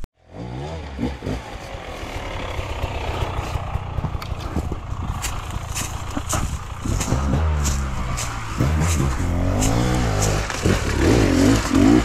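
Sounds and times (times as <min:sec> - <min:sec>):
dirt bike engine running: 0:00.3 - 0:12.0.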